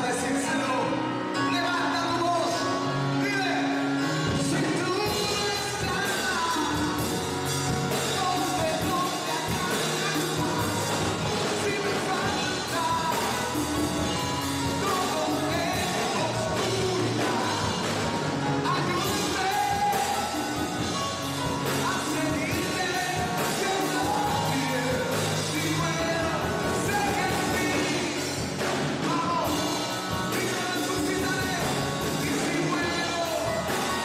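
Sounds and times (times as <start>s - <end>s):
live band playing worship song: 0.0s - 34.0s
man singing through microphone: 0.0s - 34.0s.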